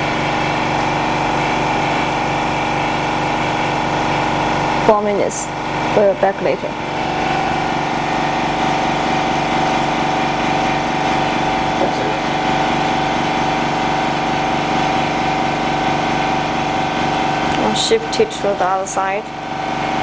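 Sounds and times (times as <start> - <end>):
machine motor hum with whine: 0.0 - 20.0.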